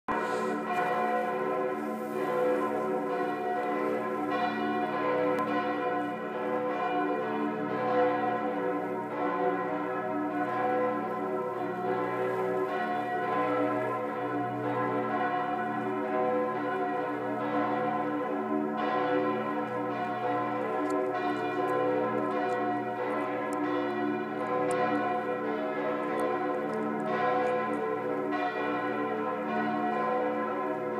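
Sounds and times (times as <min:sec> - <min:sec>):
church bells pealing: 0:00.1 - 0:30.9.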